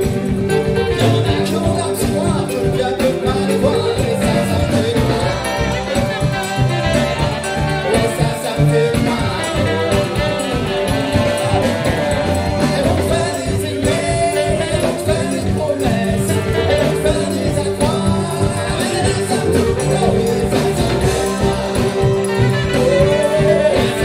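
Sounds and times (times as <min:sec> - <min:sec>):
button accordion: 0:00.0 - 0:24.0
drum kit: 0:00.0 - 0:24.0
sousaphone bass: 0:00.0 - 0:24.0.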